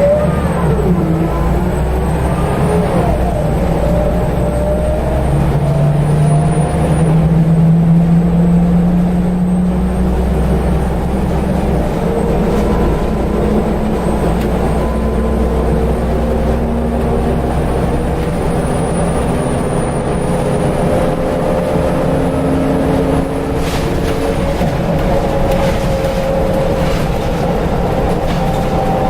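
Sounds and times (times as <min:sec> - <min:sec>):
bus engine running under load: 0:00.0 - 0:29.0.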